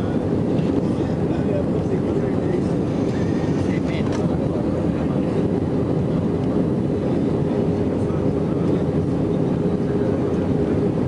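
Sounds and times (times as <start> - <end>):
airplane cabin engine and airflow noise: 0.0 - 11.0.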